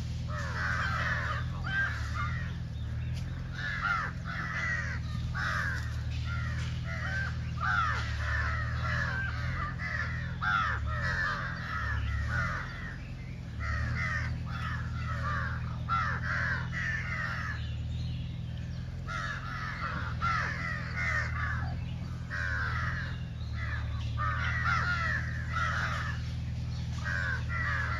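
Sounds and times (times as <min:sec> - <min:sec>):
crows cawing: 0:00.0 - 0:27.9
steady low hum: 0:00.0 - 0:27.9.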